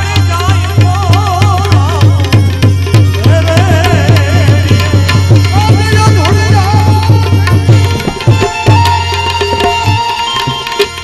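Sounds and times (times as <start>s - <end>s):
held melodic line: 0.0s - 11.0s
tabla drumming: 0.0s - 11.0s.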